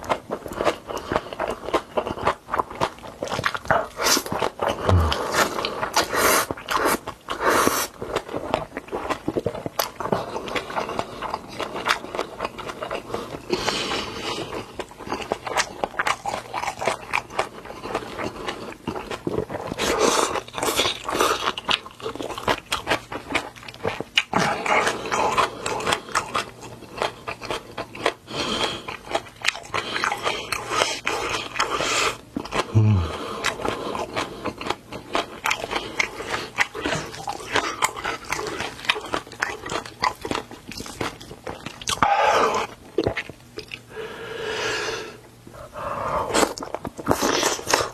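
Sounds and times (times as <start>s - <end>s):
wet chewing and crunching: 0.0s - 43.9s, 45.6s - 47.9s.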